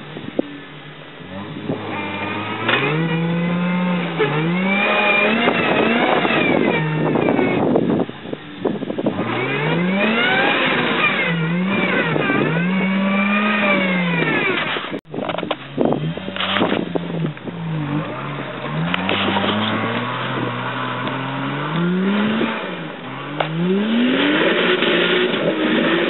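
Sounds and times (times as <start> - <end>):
pickup engine revving hard: 1.2 - 15.0, 15.6 - 26.0.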